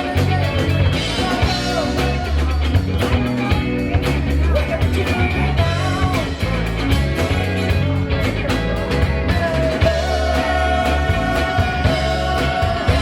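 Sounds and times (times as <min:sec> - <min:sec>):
drum beat: 0:00.0 - 0:13.0
live rock band playing: 0:00.0 - 0:13.0.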